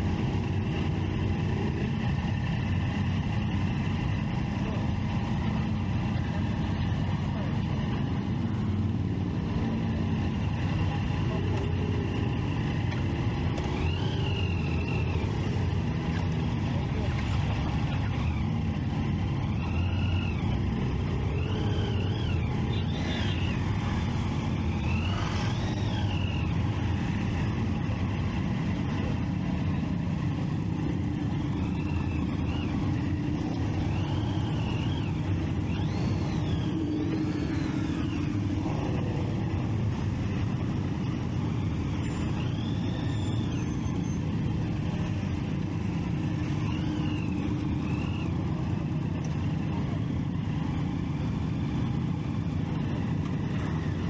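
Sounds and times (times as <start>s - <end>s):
motorcycle engine and road rumble: 0.0s - 54.0s
rising and falling whines: 7.2s - 54.0s.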